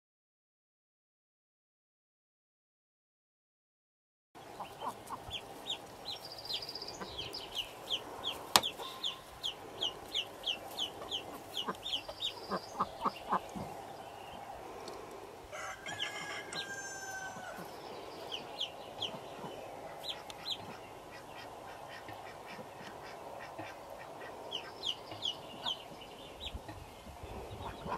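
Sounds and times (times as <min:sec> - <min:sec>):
ducklings peeping: 0:04.4 - 0:27.9.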